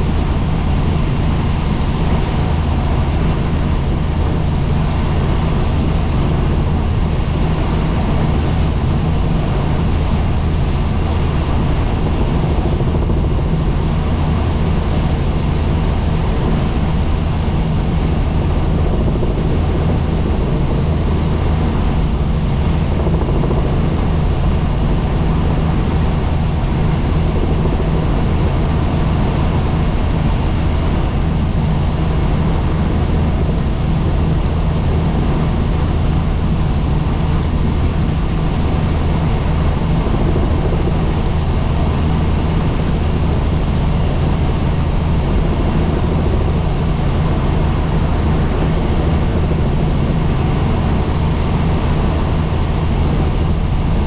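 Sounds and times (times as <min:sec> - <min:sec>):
helicopter in flight: 0:00.0 - 0:54.0.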